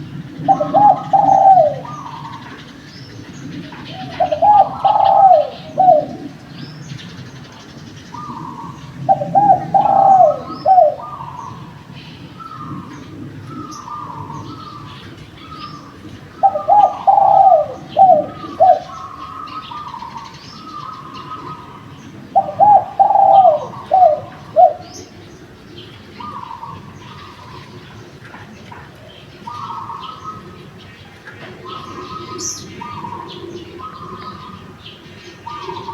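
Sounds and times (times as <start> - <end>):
dove cooing: 0.0 - 35.9
small birds chirping: 0.0 - 35.9.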